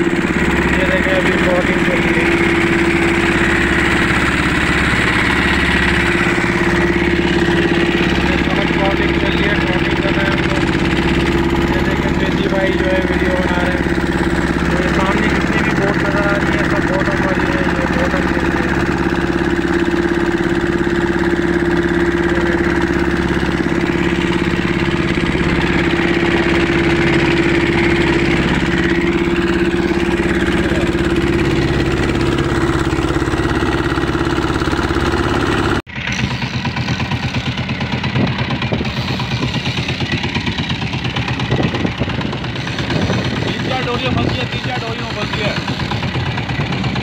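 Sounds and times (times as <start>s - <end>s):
boat engine running: 0.0s - 47.0s
wind: 0.0s - 47.0s.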